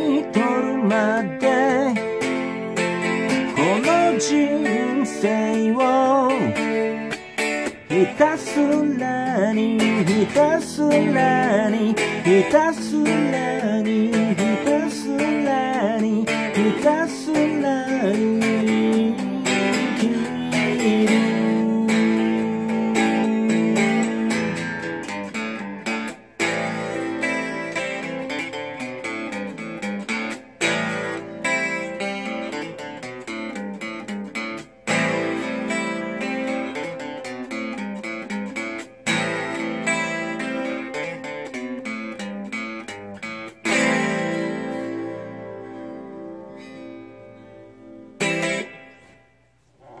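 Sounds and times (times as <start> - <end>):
electric guitar strumming chords: 0.0 - 50.0.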